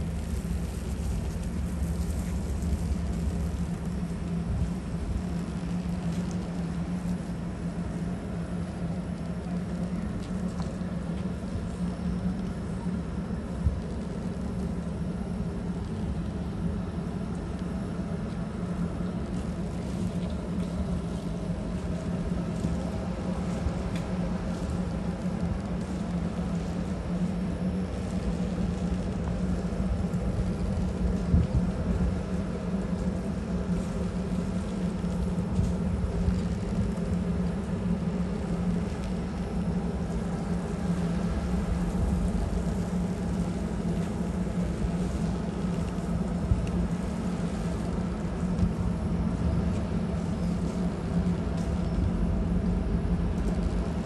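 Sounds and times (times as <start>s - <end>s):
machinery rumble: 0.0s - 54.0s
yacht diesel engines humming: 0.0s - 54.0s.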